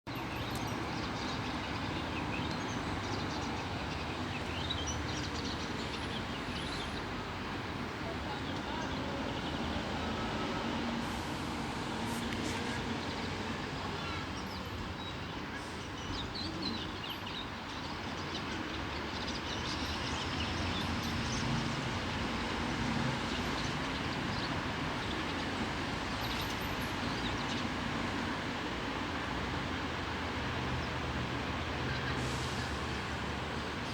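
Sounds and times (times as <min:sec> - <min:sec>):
outdoor background noise: 0:00.1 - 0:33.9.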